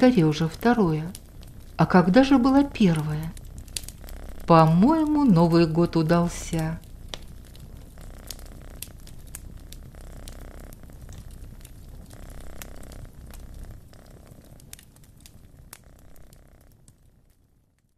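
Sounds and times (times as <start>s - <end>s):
fire popping: 0.0s - 17.9s
wood fire crackling: 0.0s - 17.9s.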